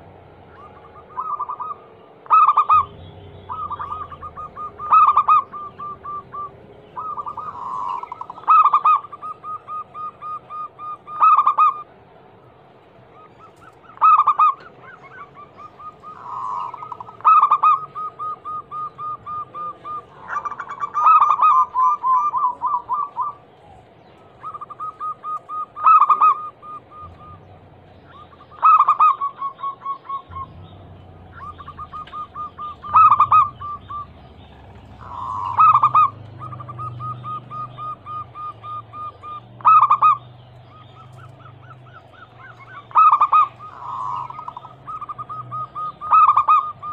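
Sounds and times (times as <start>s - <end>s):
dove cooing: 0.0s - 12.0s, 13.1s - 46.9s.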